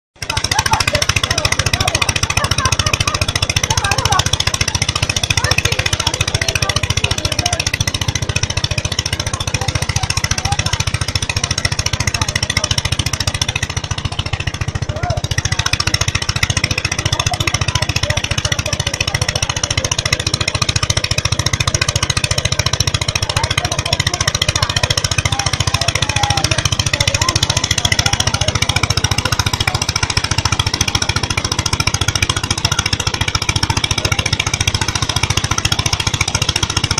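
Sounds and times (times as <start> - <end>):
threshing machine running: 0.2 - 36.9.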